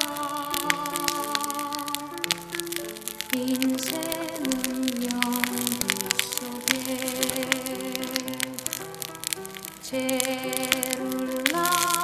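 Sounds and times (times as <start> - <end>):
campfire crackling and popping: 0.0 - 12.0
slow melody of held notes: 0.0 - 12.0.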